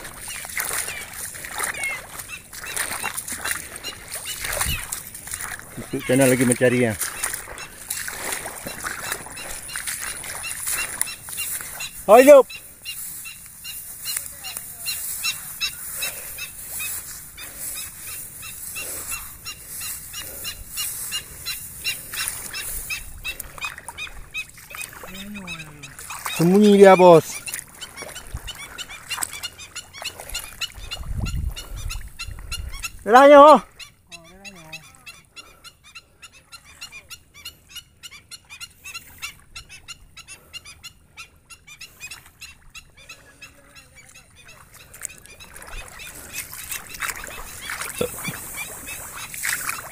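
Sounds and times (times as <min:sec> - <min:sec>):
bird yelping calls: 0:00.0 - 0:49.9.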